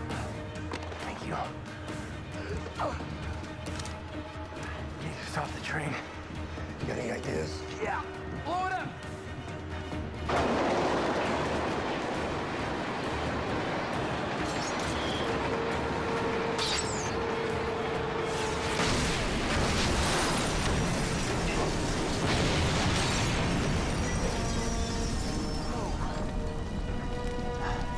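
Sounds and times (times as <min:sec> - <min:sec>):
musical score sustained notes: 0:00.0 - 0:27.9.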